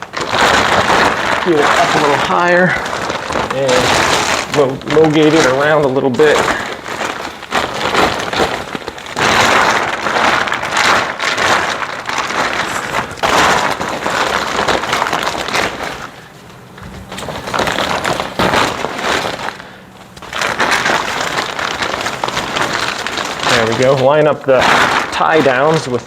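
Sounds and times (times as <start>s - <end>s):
plastic cover rustling and crinkling: 0.0s - 26.0s.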